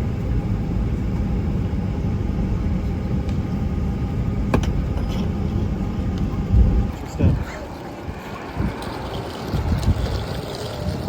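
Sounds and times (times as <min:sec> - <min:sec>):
vehicle rumbling in motion: 0:00.0 - 0:11.0.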